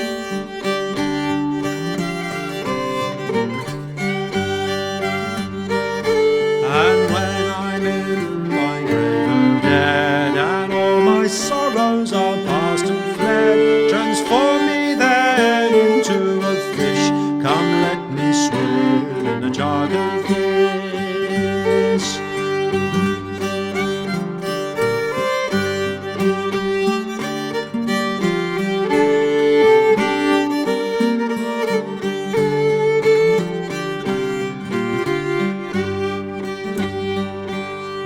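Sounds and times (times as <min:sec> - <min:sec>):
fiddle playing folk tune: 0:00.0 - 0:38.0
held accompanying notes: 0:00.0 - 0:38.0.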